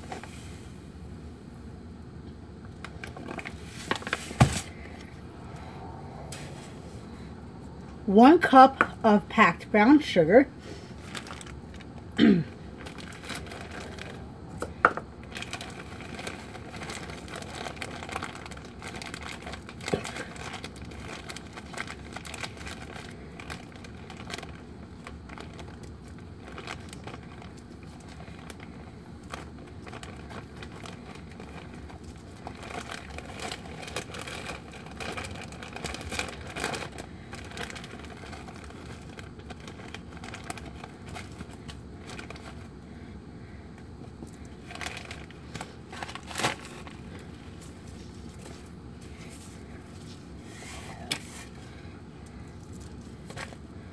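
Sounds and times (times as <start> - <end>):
plastic bag crinkling: 2.7 - 5.1, 10.9 - 43.0, 43.9 - 53.9.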